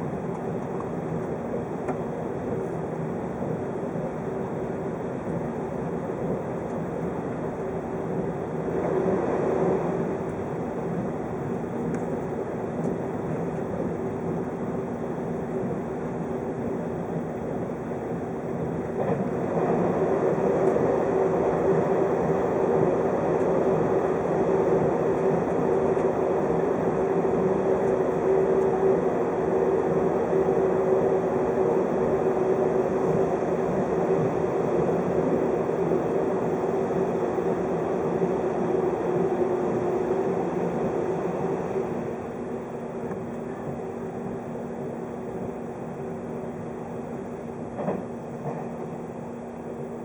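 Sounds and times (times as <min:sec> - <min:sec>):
electric train rumbling inside car: 0:00.0 - 0:50.0.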